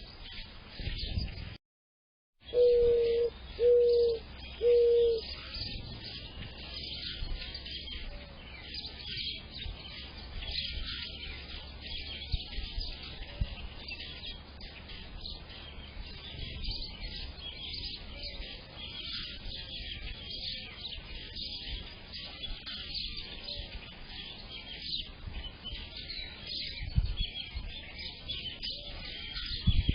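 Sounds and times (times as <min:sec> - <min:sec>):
songbirds chirping and singing: 0:00.0 - 0:01.6, 0:02.4 - 0:29.9.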